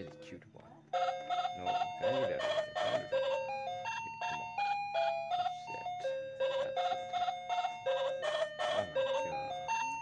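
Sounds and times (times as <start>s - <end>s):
background music melody: 0.0s - 10.0s.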